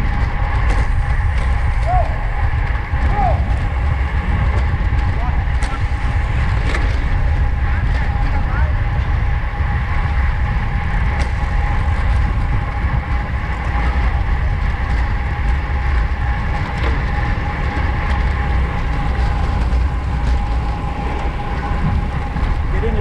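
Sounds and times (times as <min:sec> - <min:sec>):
faint steady whine: 0:00.0 - 0:23.0
wind rushing over microphone: 0:00.0 - 0:23.0.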